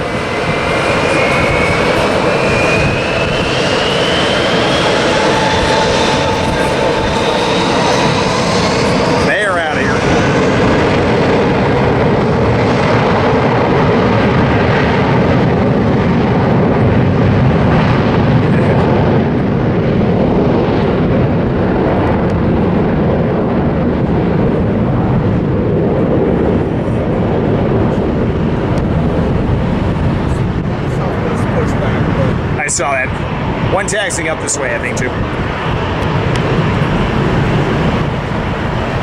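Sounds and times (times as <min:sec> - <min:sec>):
jet engines at takeoff thrust: 0:00.0 - 0:39.0.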